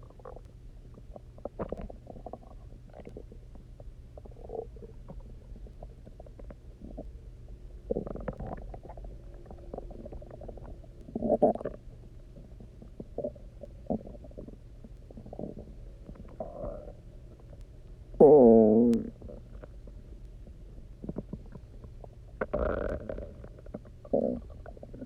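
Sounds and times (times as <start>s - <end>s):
stomach gurgling and rumbling: 0.0s - 25.0s.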